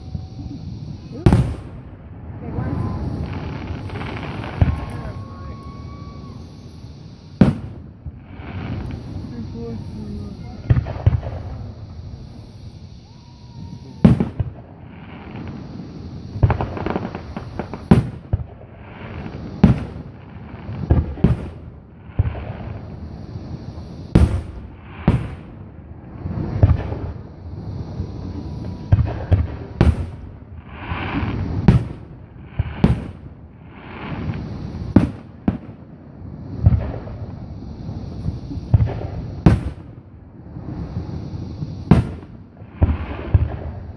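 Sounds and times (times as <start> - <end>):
firework bangs: 0.0 - 43.9
firework hiss: 0.0 - 43.9.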